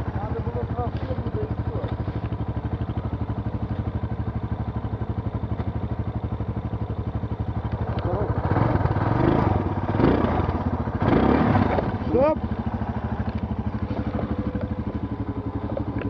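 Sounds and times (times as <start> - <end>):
atv engine idling and revving: 0.0 - 16.0.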